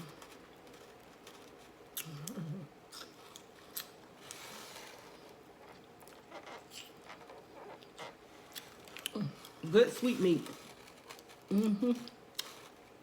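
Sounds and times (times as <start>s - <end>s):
soft chewing: 0.0s - 9.6s, 10.4s - 12.9s.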